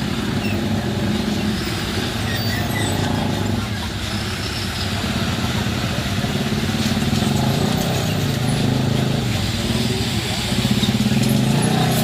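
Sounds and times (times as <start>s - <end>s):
road noise: 0.0s - 12.0s
traffic engines humming: 0.0s - 12.0s.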